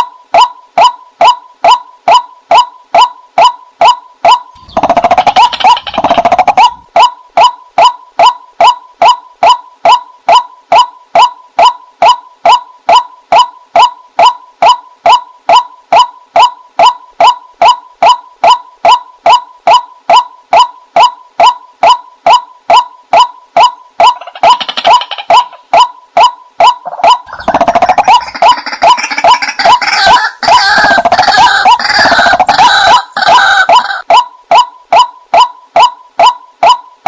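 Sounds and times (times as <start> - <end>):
waterhen calls: 0.4 - 36.9.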